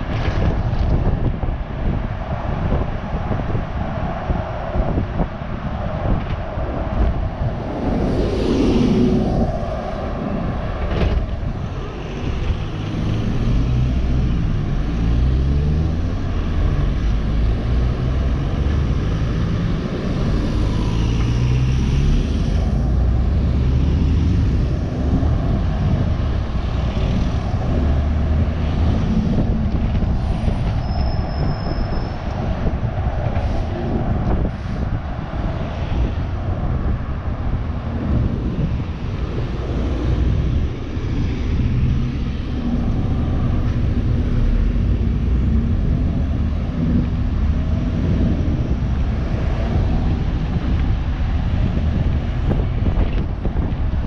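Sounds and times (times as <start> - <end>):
bus engine accelerating: 0.0 - 54.0
wind noise on microphone: 0.0 - 54.0.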